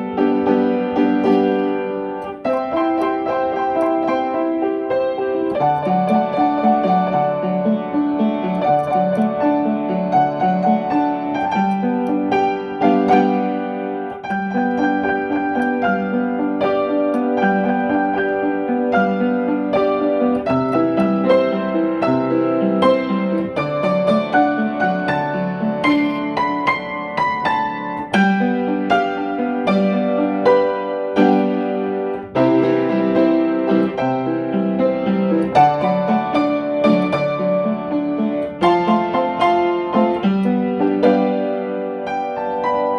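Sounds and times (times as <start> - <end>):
piano music: 0.0 - 42.9.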